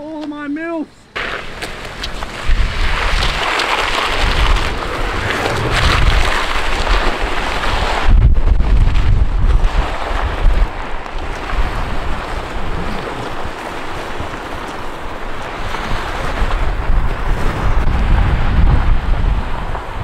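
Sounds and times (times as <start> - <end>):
body dragged across gravelly asphalt: 1.0 - 20.0
wind buffeting microphone: 1.0 - 20.0.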